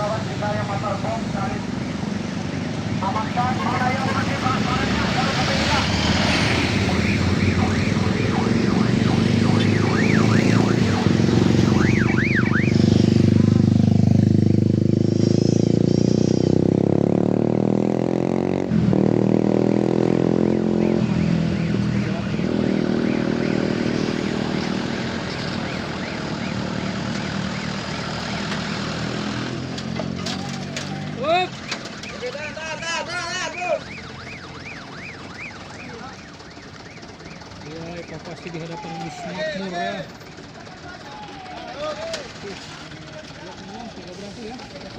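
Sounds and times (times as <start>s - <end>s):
truck engine running: 0.0s - 44.9s.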